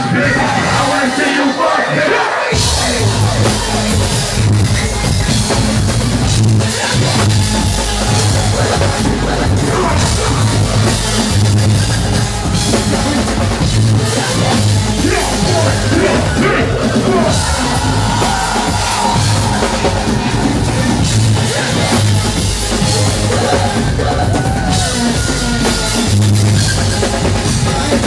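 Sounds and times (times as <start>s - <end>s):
live concert drum beat with bass: 2.5s - 28.0s.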